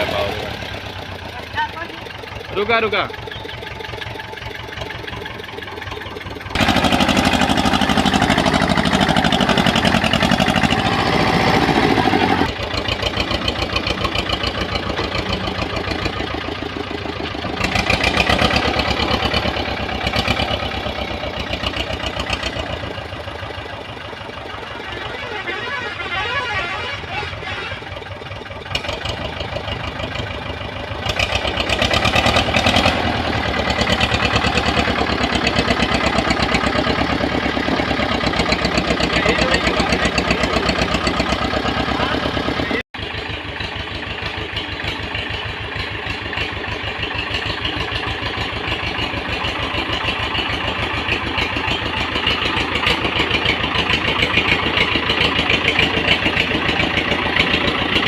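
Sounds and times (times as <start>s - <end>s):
tractor diesel engine labouring: 0.0s - 58.0s.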